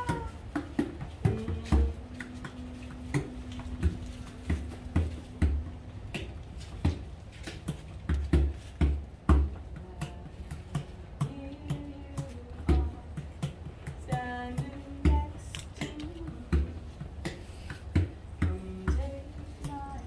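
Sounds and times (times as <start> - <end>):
frame drum played with stick: 0.0 - 20.0.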